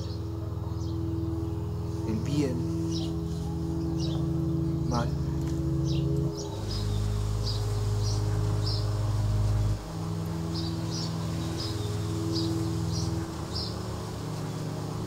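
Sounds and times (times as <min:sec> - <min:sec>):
low drone chord: 0:00.0 - 0:15.0.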